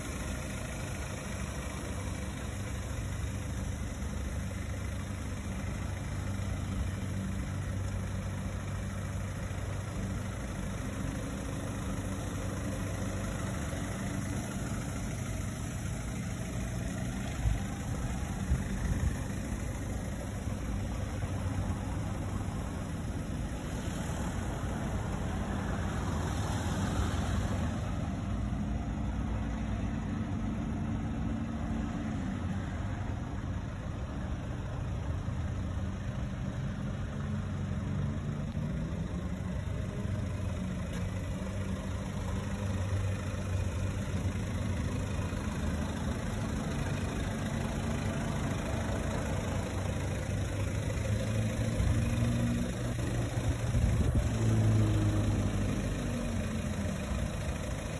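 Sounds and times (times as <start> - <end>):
diesel car engine idling: 0.0 - 57.9.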